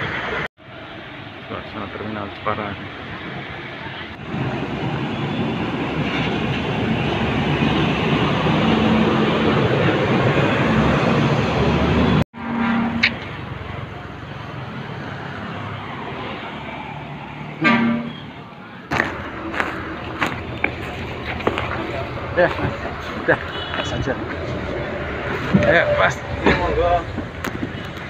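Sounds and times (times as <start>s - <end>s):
bus engines and traffic rumble: 0.0s - 28.0s.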